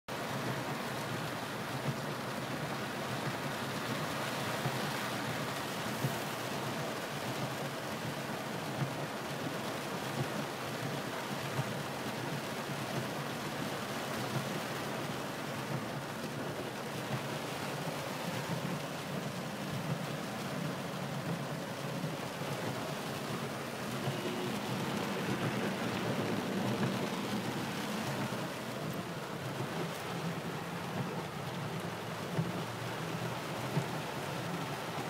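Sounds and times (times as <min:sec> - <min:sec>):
heavy rain on car roof: 0:00.1 - 0:35.0.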